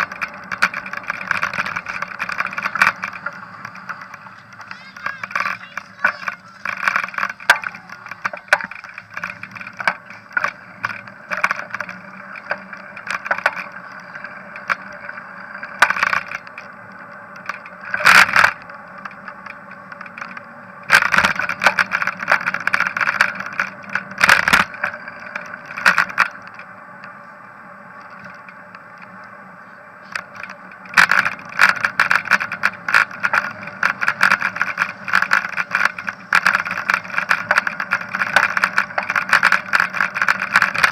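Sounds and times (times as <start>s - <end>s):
camera rattling and knocking: 0.0s - 26.7s, 30.0s - 40.9s
muffled rumble of tyres and wind: 0.0s - 40.9s.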